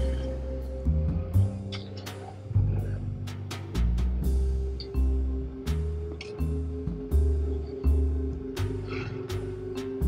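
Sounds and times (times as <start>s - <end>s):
background music with bass: 0.0s - 10.0s.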